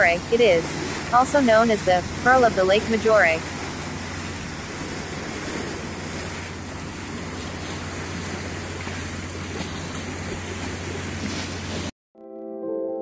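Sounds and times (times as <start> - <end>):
boat engine drone: 0.0 - 11.9
lake water rushing: 0.0 - 11.9.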